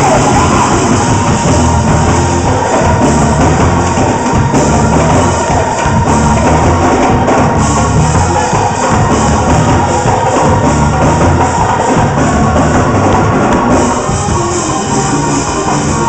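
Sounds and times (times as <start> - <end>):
bass: 0.0 - 16.0
drums: 0.0 - 16.0
live gospel church band: 0.0 - 16.0.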